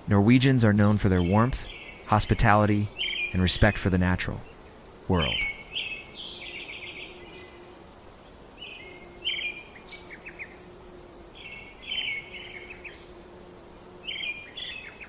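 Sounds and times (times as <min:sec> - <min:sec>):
songbird chirping and trilling: 0:00.0 - 0:15.0.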